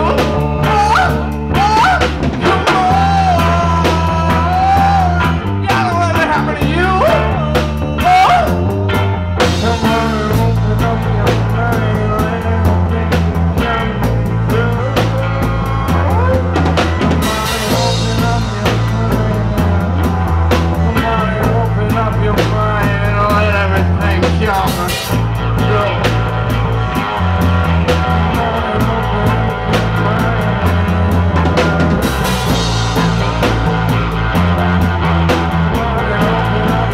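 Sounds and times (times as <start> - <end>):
bass line: 0.0 - 36.9
drum kit: 0.0 - 36.9
reggae band playing live: 0.0 - 36.9.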